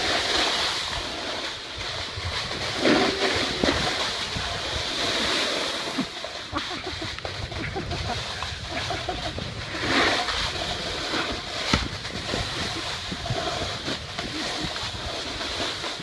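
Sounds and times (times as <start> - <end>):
snowboards scraping over snow: 0.0 - 16.0
wind rumbling on microphone: 0.0 - 16.0.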